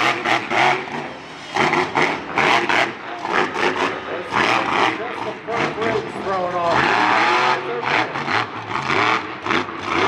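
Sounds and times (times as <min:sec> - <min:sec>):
monster truck engine revving: 0:00.0 - 0:10.0.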